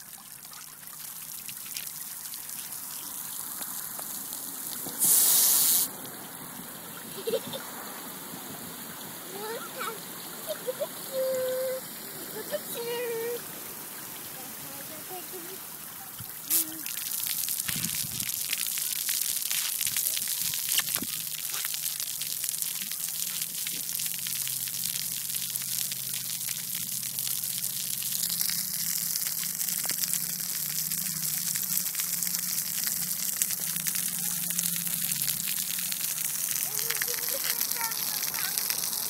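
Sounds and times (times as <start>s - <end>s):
water jets spraying on concrete: 0.0s - 39.0s.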